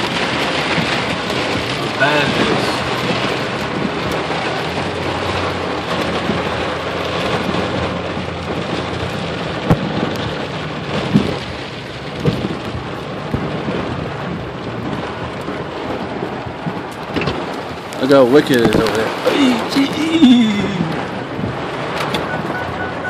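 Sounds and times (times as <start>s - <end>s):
heavy rain on vehicle roof: 0.0s - 23.0s.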